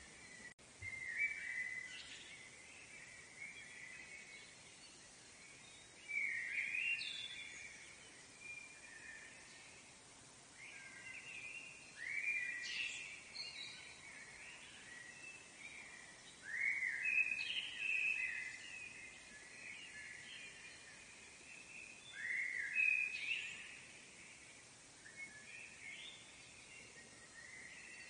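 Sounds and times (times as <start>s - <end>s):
faint forest ambience hiss: 0.0s - 28.0s
songbird singing: 0.0s - 28.0s.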